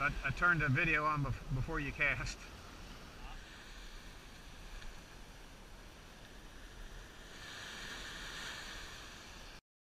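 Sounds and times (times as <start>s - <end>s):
surf washing up a beach: 0.0s - 9.6s.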